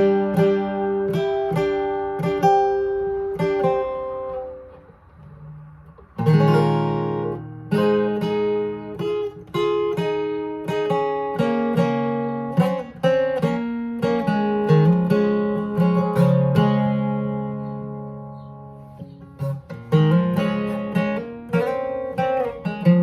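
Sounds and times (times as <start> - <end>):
picked acoustic guitar notes: 0.0 - 23.0
strummed guitar chords: 0.0 - 23.0.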